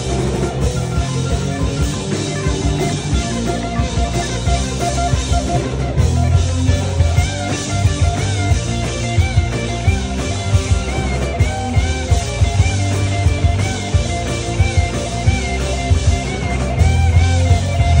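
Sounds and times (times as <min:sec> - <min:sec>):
drum kit: 0:00.0 - 0:18.0
lead electric guitar: 0:00.0 - 0:18.0
rhythm guitar: 0:00.0 - 0:18.0.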